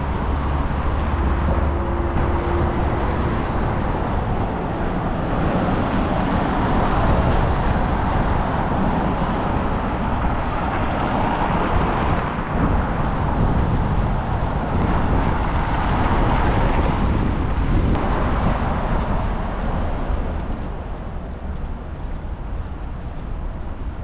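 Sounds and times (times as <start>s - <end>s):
road traffic roar: 0.0s - 24.0s
wind buffeting microphone: 0.0s - 24.0s.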